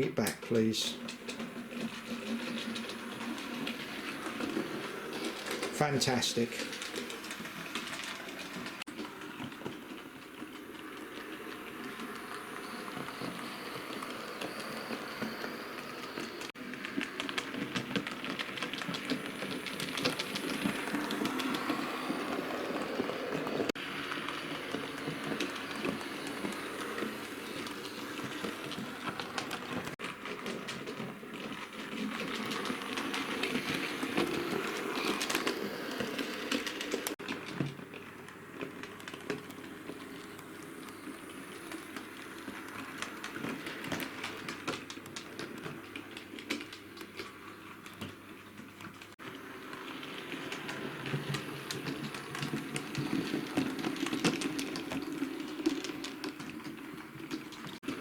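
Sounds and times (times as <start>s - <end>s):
model train wheels clicking: 0.0s - 48.2s, 49.0s - 58.0s.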